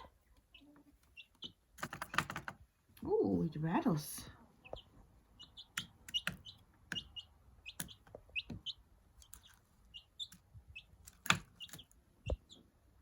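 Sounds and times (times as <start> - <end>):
chick peeping: 0.0 - 2.5, 4.3 - 13.0.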